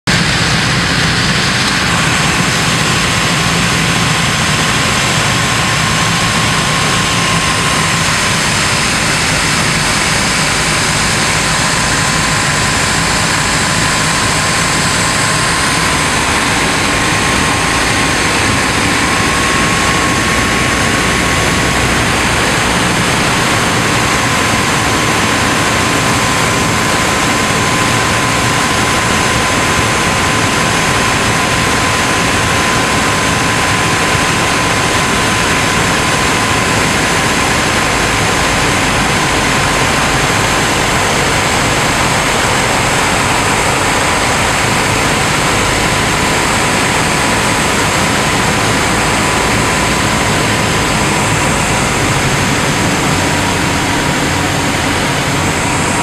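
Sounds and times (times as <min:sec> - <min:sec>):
propeller airplane engine drone: 0:00.0 - 0:56.0
rushing air: 0:00.1 - 0:56.0.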